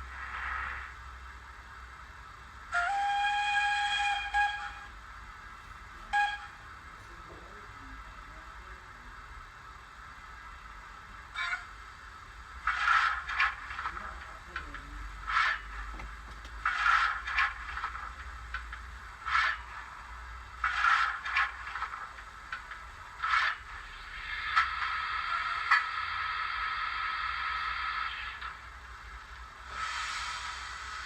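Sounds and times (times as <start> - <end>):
model steam locomotive chuffs: 0.0 - 31.0
steam hissing: 0.0 - 31.0.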